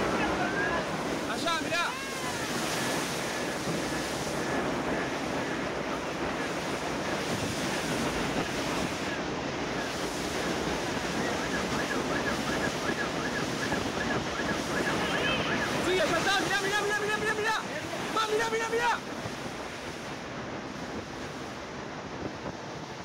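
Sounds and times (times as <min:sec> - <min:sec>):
strong wind rushing: 0:00.0 - 0:23.0
wind buffeting microphone: 0:00.0 - 0:23.0.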